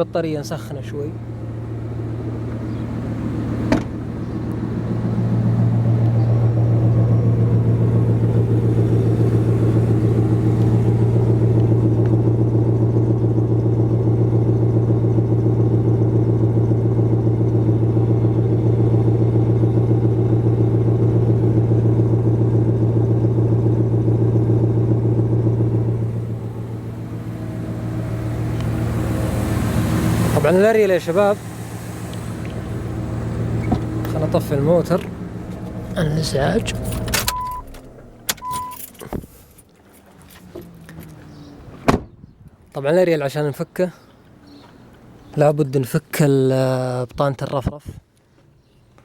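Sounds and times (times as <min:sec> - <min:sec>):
car engine idling: 0:00.0 - 0:42.7.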